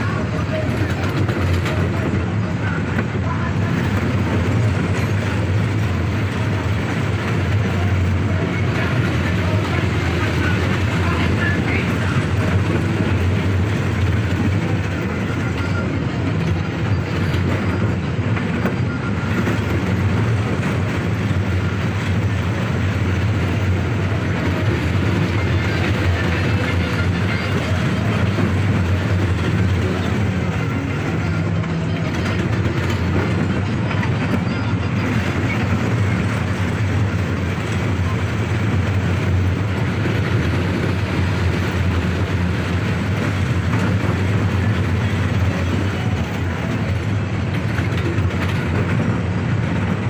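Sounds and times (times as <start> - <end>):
train running rumble: 0.0 - 50.0.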